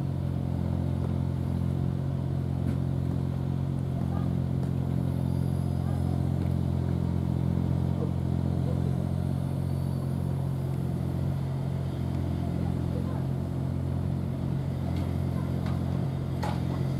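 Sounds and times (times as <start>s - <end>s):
engine idling: 0.0s - 16.9s.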